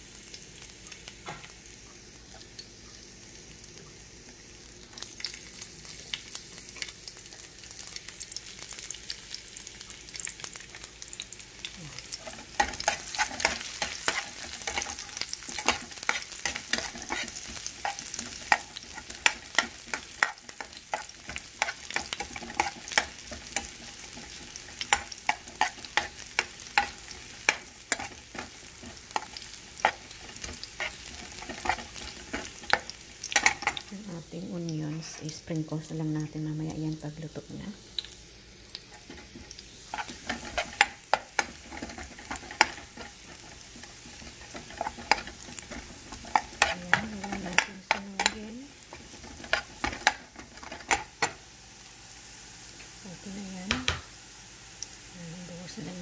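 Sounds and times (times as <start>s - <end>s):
garlic sizzling in oil: 0.0s - 56.0s.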